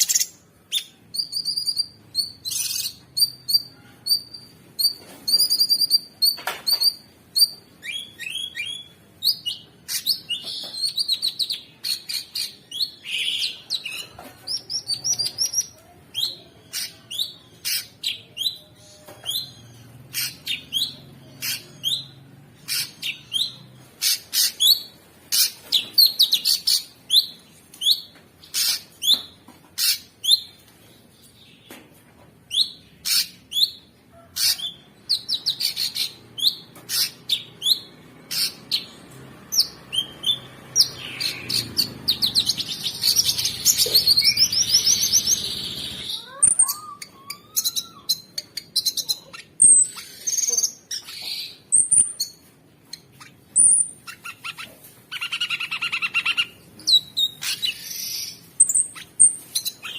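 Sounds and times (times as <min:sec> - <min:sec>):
bird singing: 0:00.0 - 0:30.6, 0:32.5 - 0:59.9.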